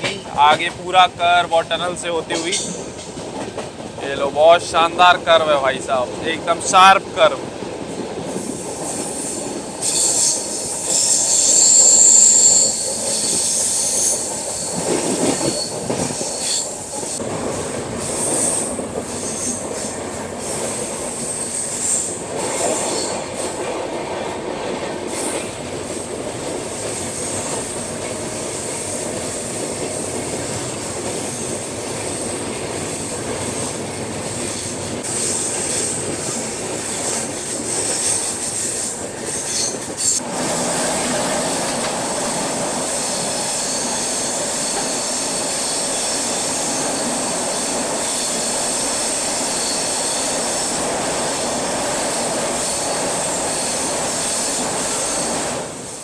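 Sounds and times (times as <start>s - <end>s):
train wheels squealing on rails: 0.0s - 3.2s, 8.3s - 23.7s, 25.0s - 56.0s
train coaches rumbling on track: 0.0s - 56.0s.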